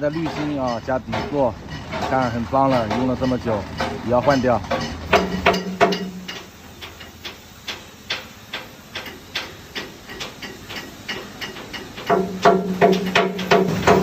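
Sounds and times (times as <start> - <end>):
hammering on steel: 0.0 - 14.0
steady hiss: 0.0 - 14.0.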